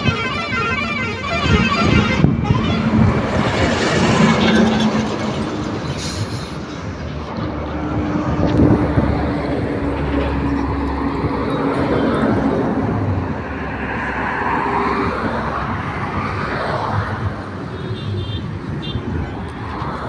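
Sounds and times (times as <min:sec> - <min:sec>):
engine hum: 0:00.0 - 0:17.7
highway traffic rumble: 0:00.0 - 0:20.0.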